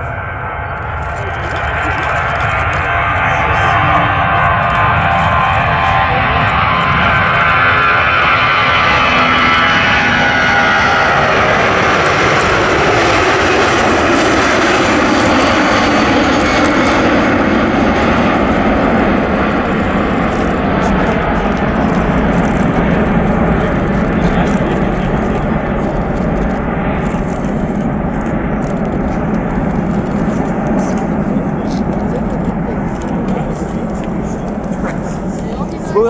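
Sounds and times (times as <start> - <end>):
jet engines passing: 0.0 - 36.0.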